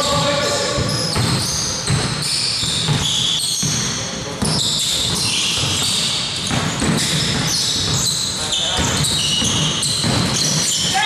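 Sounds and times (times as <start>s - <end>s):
shoe squeaks: 0.0s - 11.0s
basketball bouncing: 0.4s - 11.0s.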